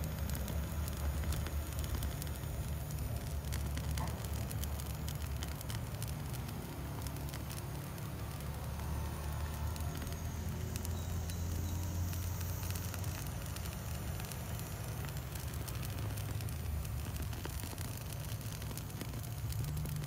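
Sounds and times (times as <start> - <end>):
foliage crackling as it burns: 0.0 - 20.0
jet torch low rumble: 0.0 - 20.0.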